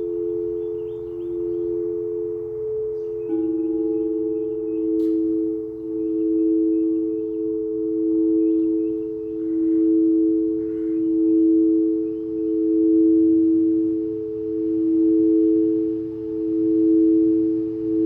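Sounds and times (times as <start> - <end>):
singing bowls sustained tones: 0.0 - 18.0.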